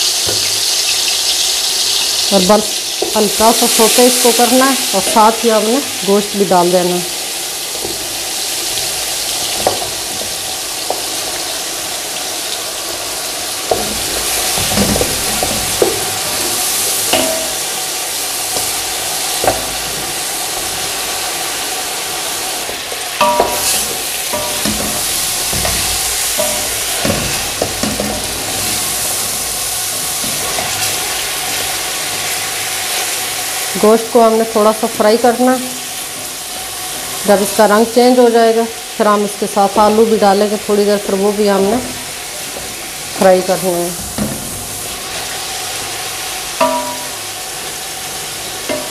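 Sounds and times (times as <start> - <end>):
chicken frying in hot oil: 0.0 - 48.9.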